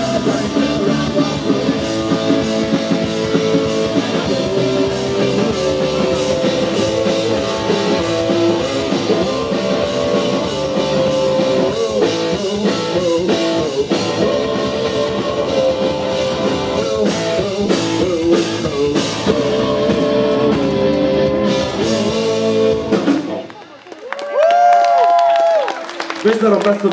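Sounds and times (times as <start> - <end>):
drum kit: 0.0 - 23.6
electric guitar: 0.0 - 23.7.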